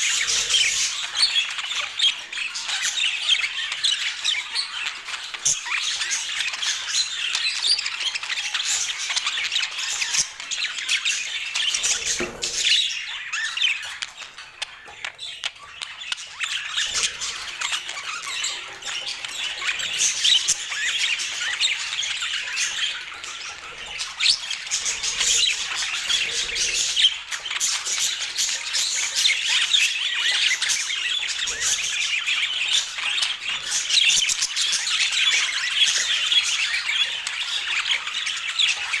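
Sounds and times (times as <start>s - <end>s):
budgerigars chattering and squawking: 0.0s - 39.0s.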